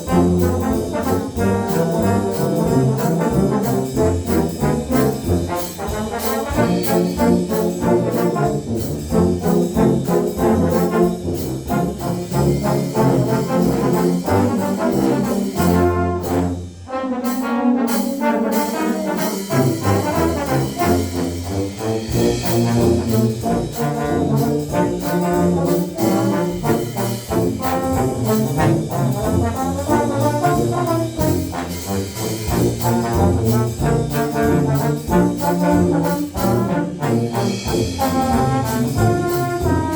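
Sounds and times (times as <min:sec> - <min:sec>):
low brass ensemble playing a march: 0:00.0 - 0:39.9.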